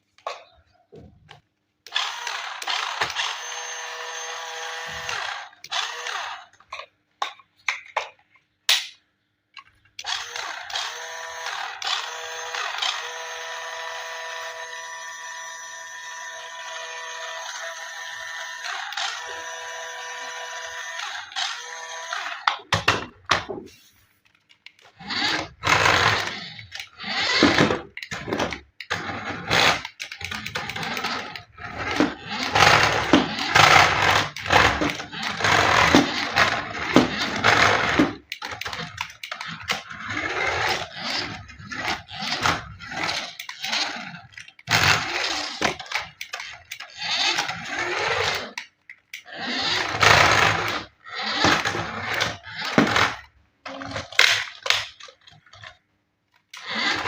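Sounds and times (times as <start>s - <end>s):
toy electric motor whining: 1.9s - 6.8s, 10.0s - 22.8s, 24.7s - 55.8s, 56.4s - 57.0s.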